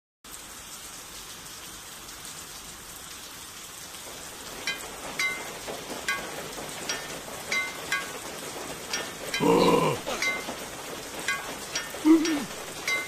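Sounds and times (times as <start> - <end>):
rain falling and spattering: 0.2 - 13.0.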